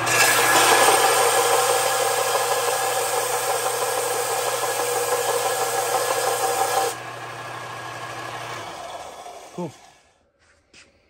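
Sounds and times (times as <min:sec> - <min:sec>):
sander motor hum: 0:00.0 - 0:10.0
belt sander grinding metal: 0:00.0 - 0:10.1.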